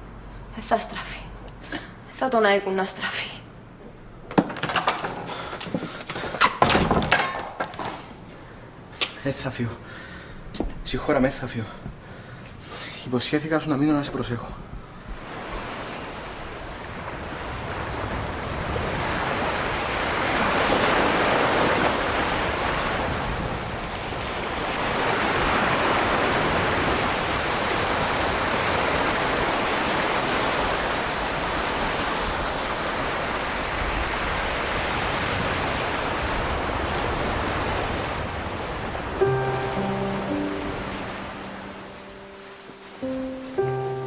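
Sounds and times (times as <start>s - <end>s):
sea surf washing ashore: 7.9s - 44.0s.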